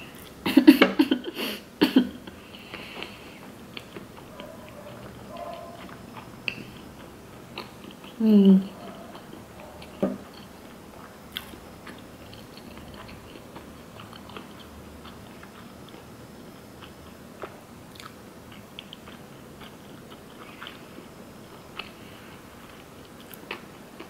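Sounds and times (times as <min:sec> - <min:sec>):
chewing with wet mouth clicks: 0:02.6 - 0:22.0, 0:22.7 - 0:24.0.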